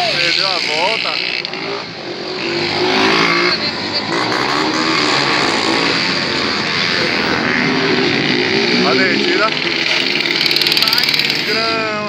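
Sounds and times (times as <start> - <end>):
motorcycle engine at high revs: 0.0 - 12.0.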